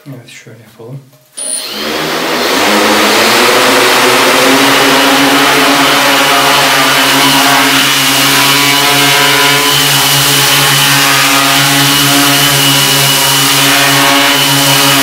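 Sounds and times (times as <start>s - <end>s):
drone motors buzzing: 1.4s - 15.0s
rushing propeller wash: 1.6s - 15.0s.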